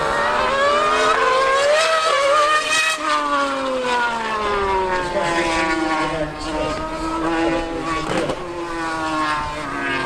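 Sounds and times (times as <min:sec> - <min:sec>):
racing car engine at high revs: 0:00.0 - 0:10.0
superbike engine at high revs: 0:00.0 - 0:10.0.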